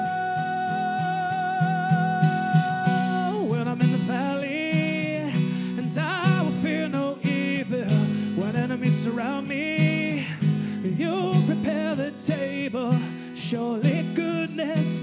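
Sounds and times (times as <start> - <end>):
man singing: 0.0 - 15.0
strummed acoustic guitar: 0.0 - 15.0.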